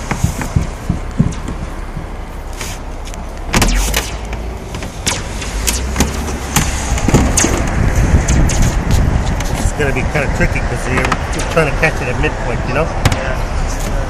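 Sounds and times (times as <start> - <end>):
seamer motor humming: 0.0 - 14.0.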